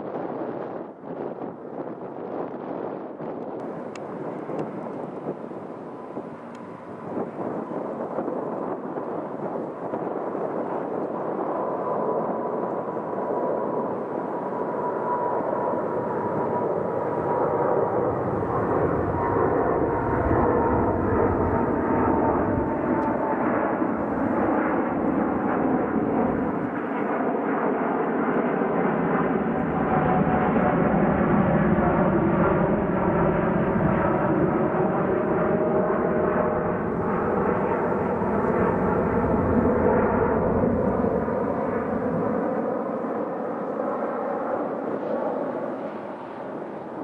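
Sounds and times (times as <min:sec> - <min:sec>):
jet engine fan whine: 0:00.0 - 0:47.0
jet engines rumbling: 0:00.0 - 0:47.0.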